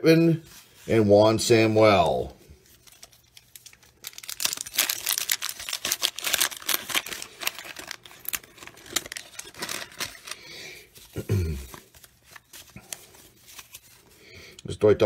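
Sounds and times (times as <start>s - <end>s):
paper wrapper crinkling and tearing: 2.0s - 14.4s.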